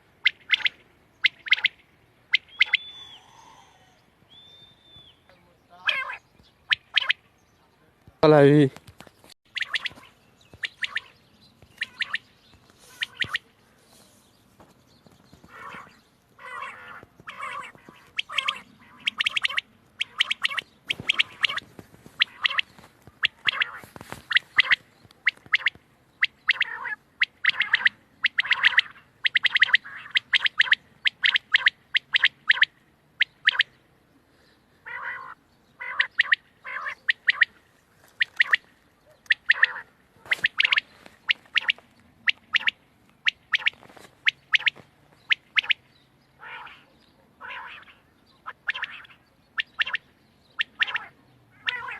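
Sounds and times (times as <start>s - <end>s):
quail calling: 0.0s - 7.3s, 9.5s - 14.1s, 15.3s - 33.8s, 34.8s - 51.9s.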